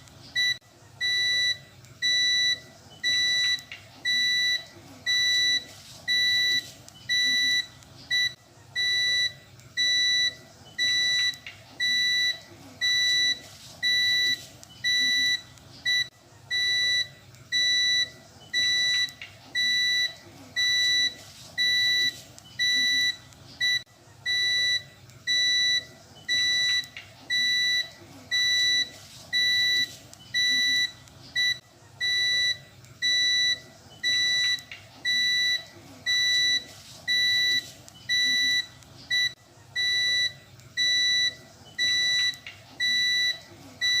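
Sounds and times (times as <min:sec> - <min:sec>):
electricity meter beeping: 0:00.0 - 0:44.0.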